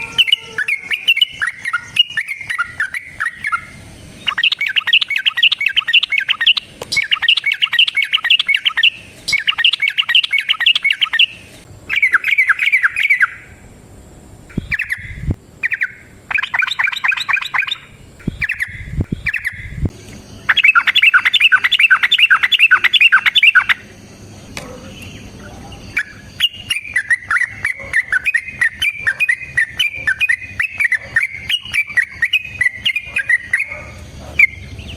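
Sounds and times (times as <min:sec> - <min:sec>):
bulbul singing fast chattering notes: 0:00.0 - 0:13.6, 0:14.4 - 0:24.5, 0:25.1 - 0:34.9.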